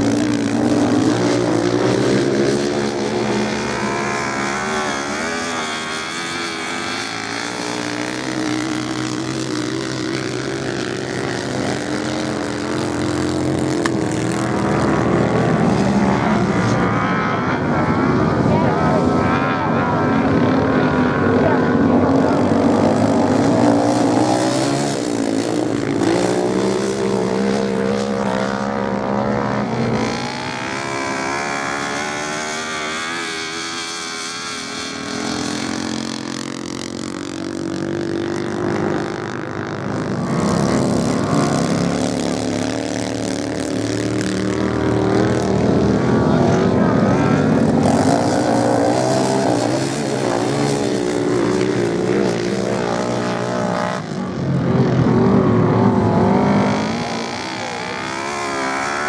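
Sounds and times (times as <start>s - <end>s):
racing motorcycle engines revving: 0.0s - 59.0s.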